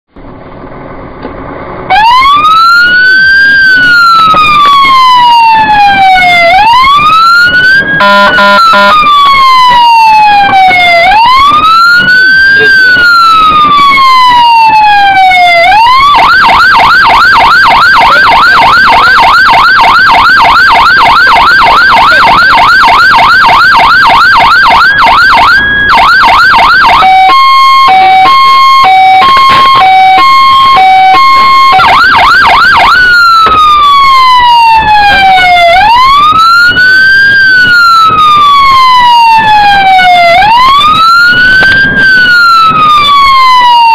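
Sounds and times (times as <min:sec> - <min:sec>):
fire engine siren: 0:01.7 - 0:43.9.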